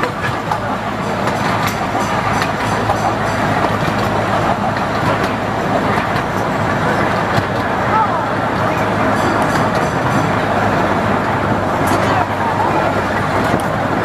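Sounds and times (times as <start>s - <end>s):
train rumbling along track: 0.0s - 14.0s
wheels clicking on rails: 0.0s - 14.0s.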